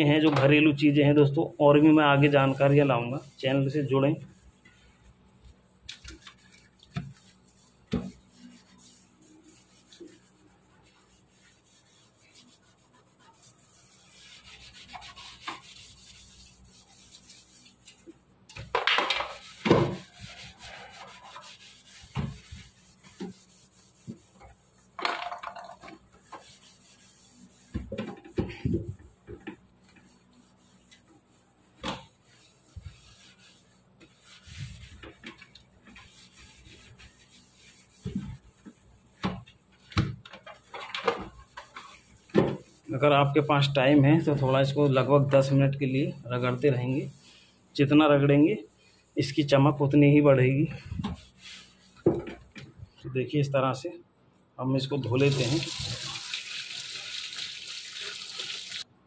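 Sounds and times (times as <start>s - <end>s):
scrub pad rubbing steel sink: 0.5s - 5.1s, 5.9s - 25.0s, 25.6s - 49.6s, 50.8s - 52.5s, 55.2s - 57.3s.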